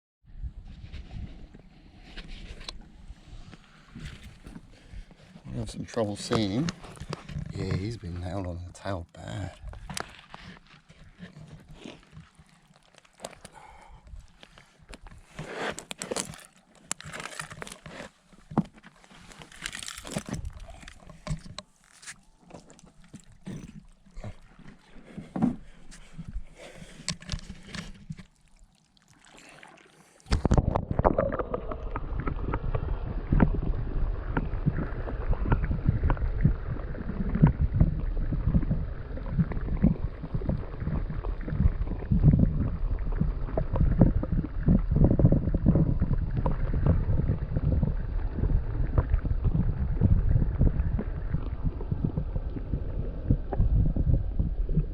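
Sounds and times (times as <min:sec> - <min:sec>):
open-air water sounds: 0:00.3 - 0:54.9
underwater rushing and sloshing: 0:00.7 - 0:54.9.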